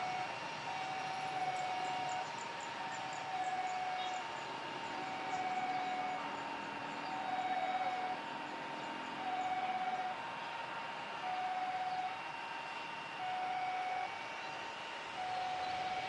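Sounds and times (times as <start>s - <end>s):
steady background hum: 0.0s - 16.0s
two-tone warning siren: 0.0s - 16.0s.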